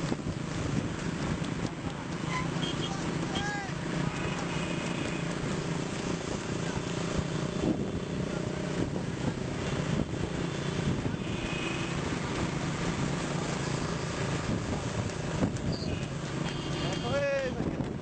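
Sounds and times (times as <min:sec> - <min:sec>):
motorcycle engines droning: 0:00.0 - 0:18.0.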